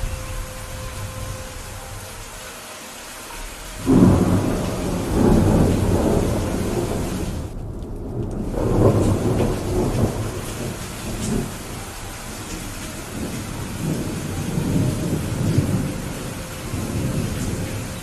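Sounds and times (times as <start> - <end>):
thunder rumbling: 0.0 - 2.5, 3.4 - 18.0
steady rain: 0.0 - 18.0.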